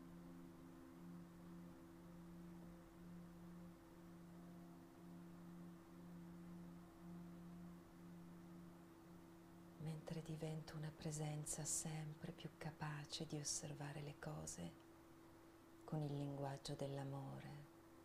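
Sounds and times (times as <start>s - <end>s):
faint drone of pure tones: 0.0s - 18.0s.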